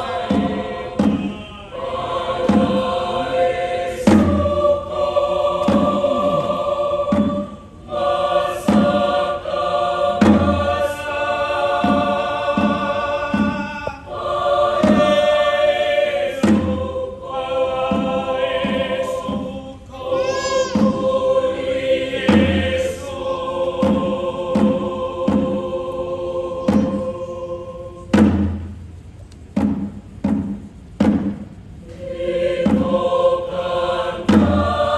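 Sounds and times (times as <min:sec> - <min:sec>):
choir singing held chords: 0:00.0 - 0:28.8, 0:31.8 - 0:34.9.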